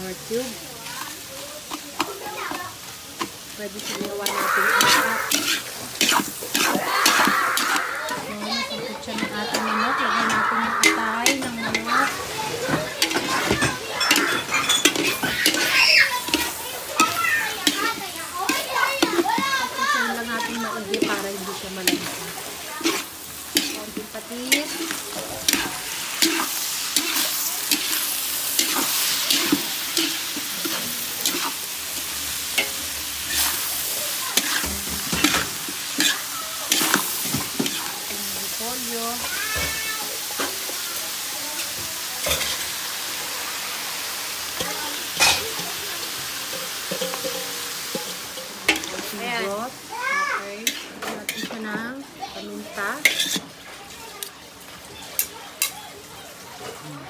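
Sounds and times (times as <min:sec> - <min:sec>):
food sizzling in a wok: 0:00.0 - 0:57.0
metal ladle scraping a pan: 0:03.2 - 0:40.9, 0:41.7 - 0:42.8, 0:44.5 - 0:49.8, 0:50.4 - 0:53.6.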